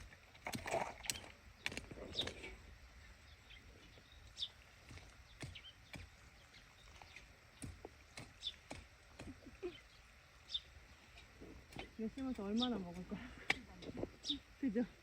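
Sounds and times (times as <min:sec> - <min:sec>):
hands working soil and pots: 0:00.0 - 0:10.0, 0:10.9 - 0:14.4.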